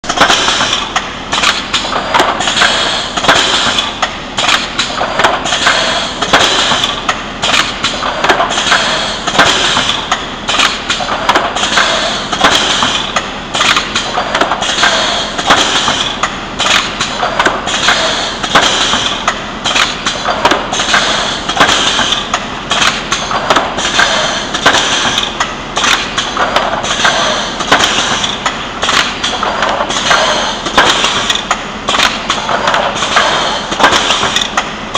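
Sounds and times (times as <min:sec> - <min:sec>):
welding machine clattering: 0:00.0 - 0:34.9.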